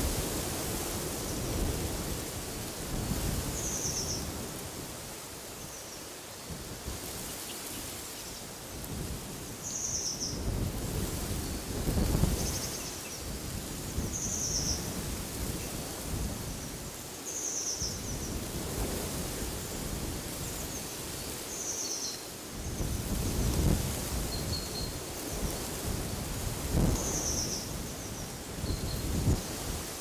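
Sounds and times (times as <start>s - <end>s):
wind gusting in trees: 0.0s - 30.0s.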